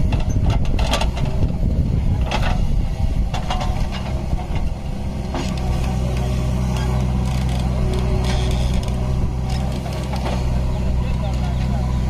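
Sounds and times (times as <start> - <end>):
diesel backhoe engine running: 0.0 - 12.0
tractor idling: 0.0 - 12.0.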